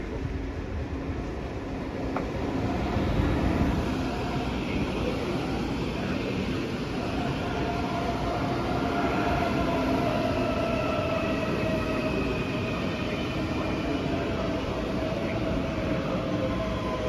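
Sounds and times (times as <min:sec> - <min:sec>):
train high whine: 0:00.0 - 0:17.0
train wheel and running noise: 0:00.0 - 0:17.0.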